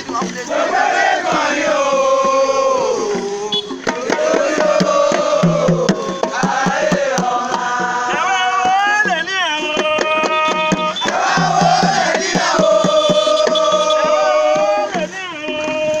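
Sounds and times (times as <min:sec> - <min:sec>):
hand-drum percussion: 0:00.0 - 0:16.0
voices chanting a melody: 0:00.0 - 0:16.0.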